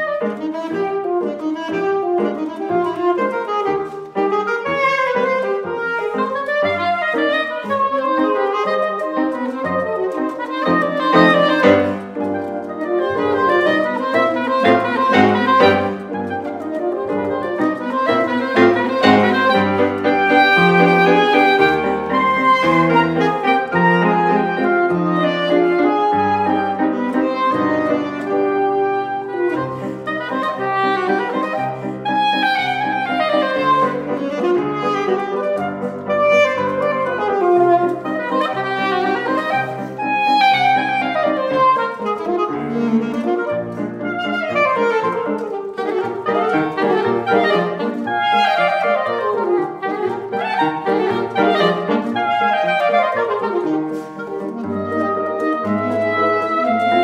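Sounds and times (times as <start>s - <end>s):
piano accompaniment: 0.0s - 57.0s
saxophone duet: 0.0s - 57.0s.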